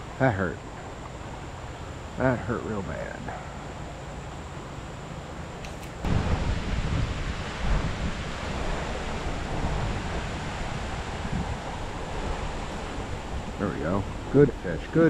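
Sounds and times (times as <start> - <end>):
creek water rushing: 0.0 - 15.0
wind gusting against microphone: 0.0 - 15.0.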